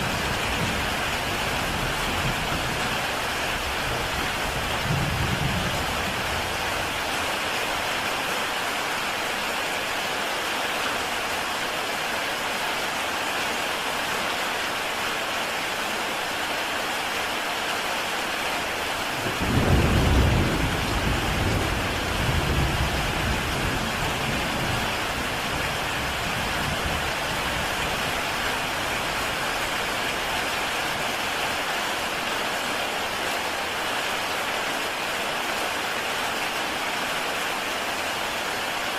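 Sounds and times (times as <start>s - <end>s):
heavy rain on a tile roof: 0.0s - 38.9s.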